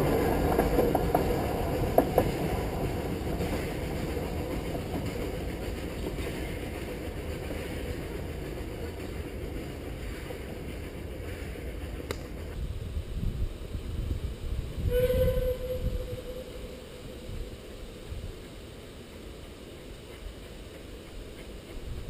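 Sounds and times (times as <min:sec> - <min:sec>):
steam train rumbling on rails: 0:00.0 - 0:22.0.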